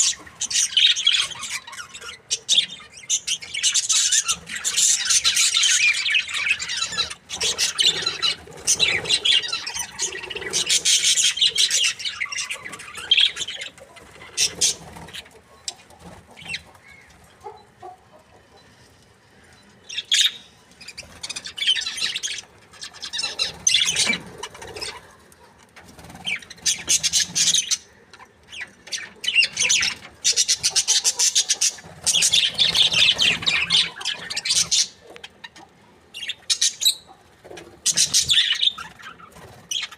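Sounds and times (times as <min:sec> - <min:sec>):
budgerigars chattering and chirping: 0:00.0 - 0:18.8, 0:19.5 - 0:25.4, 0:26.0 - 0:39.9.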